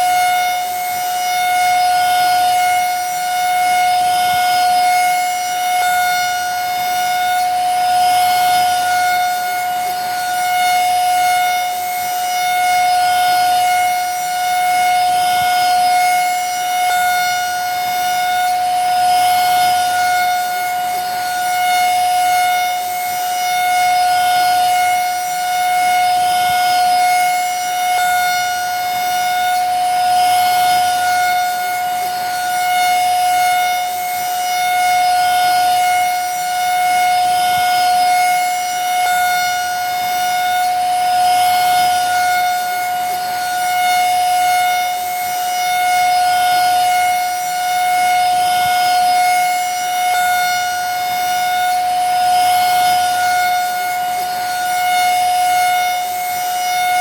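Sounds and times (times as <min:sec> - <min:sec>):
vacuum cleaner motor whining: 0:00.0 - 0:57.0.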